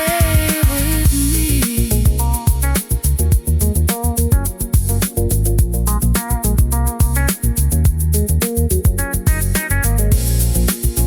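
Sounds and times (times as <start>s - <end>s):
instrumental music with drum beat: 0.0s - 11.0s.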